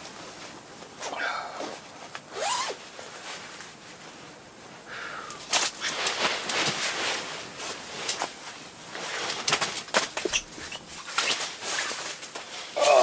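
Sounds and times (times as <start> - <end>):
clothing and gear rustling: 0.0 - 4.8, 5.4 - 12.8.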